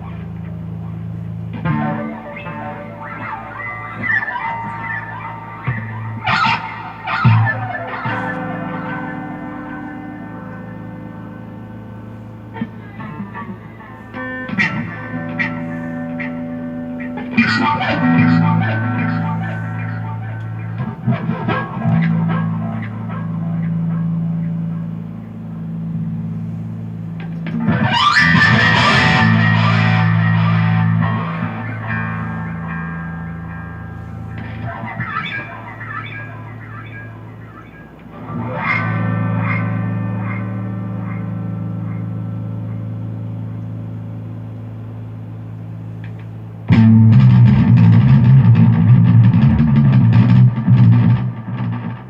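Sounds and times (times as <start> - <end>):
distorted electric guitar: 0.0 - 52.0.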